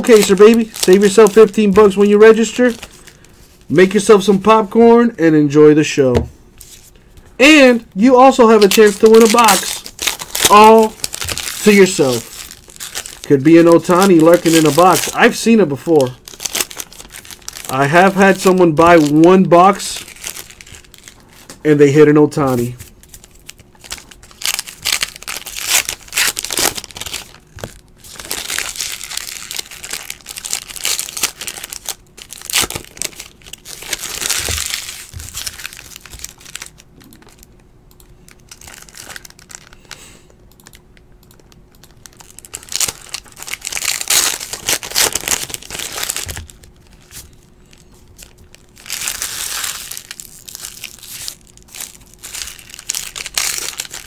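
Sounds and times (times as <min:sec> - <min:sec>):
card pack wrapper crinkling and tearing: 0:00.0 - 0:04.5, 0:06.6 - 0:21.6, 0:22.4 - 0:37.7, 0:38.3 - 0:40.8, 0:41.4 - 0:54.0.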